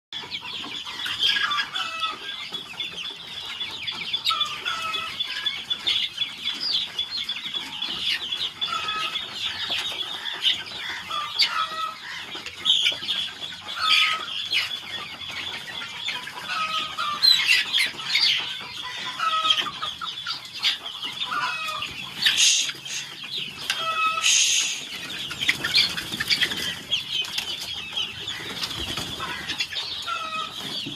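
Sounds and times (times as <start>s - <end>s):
chickens clucking: 0.1s - 30.9s
chorus of high chirps: 0.3s - 30.9s.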